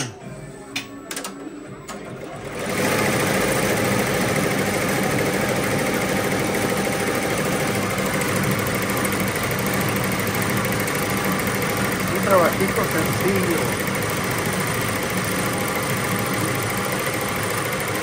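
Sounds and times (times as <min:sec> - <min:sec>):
embroidery machine clattering: 0:01.9 - 0:18.0.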